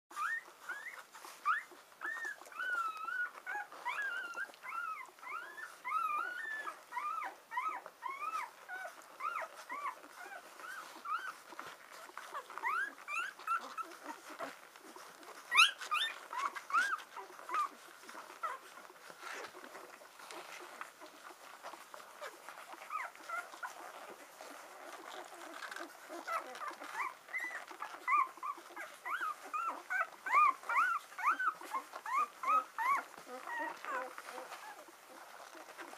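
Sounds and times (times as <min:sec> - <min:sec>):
puppies squeaking and whimpering: 0:00.1 - 0:35.9.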